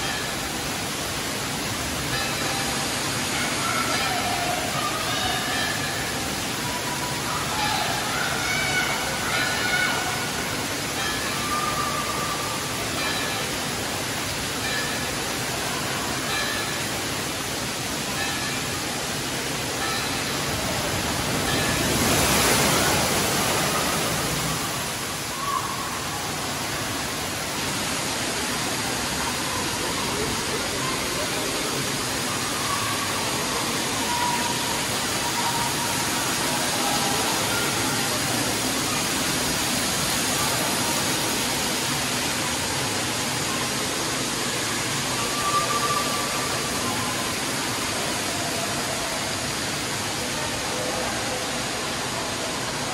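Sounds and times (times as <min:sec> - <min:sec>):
falling and splashing water: 0:00.0 - 0:52.9.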